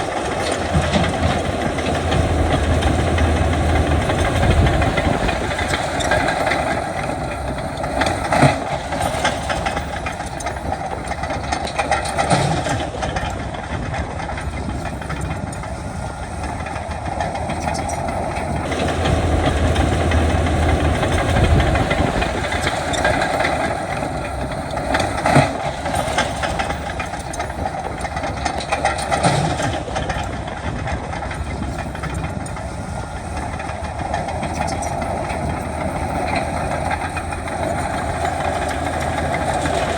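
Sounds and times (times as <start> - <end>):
diesel machinery engine under load: 0.0 - 39.9.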